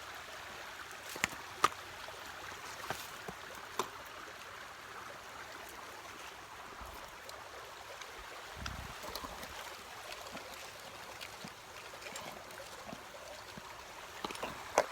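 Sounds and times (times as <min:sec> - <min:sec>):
small stream running: 0:00.0 - 0:14.9.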